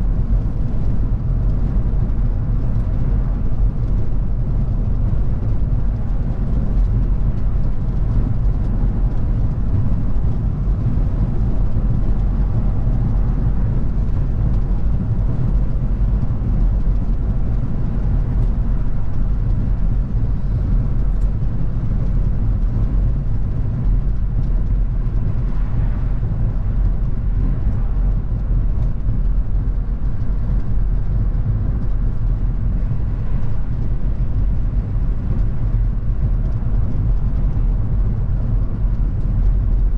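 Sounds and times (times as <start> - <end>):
car engine and tyres on road: 0.0 - 39.9.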